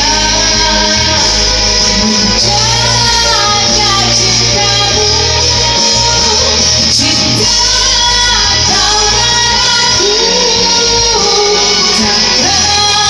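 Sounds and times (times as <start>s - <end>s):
pop song singing voice: 0.0s - 13.0s
steady bass line: 0.0s - 13.0s.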